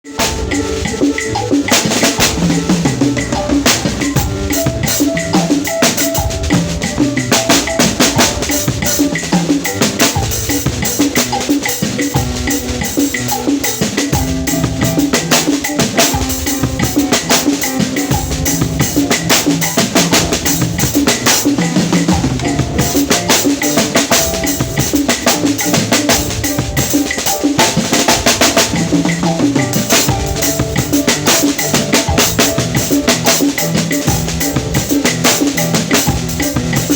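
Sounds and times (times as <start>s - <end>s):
drum kit playing fast: 0.0s - 36.9s
held pitched notes: 0.0s - 36.9s.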